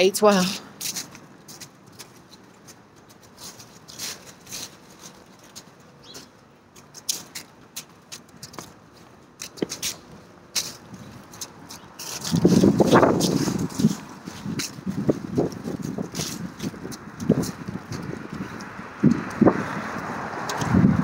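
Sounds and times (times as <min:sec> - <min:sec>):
footsteps on leaves: 0:00.6 - 0:20.5.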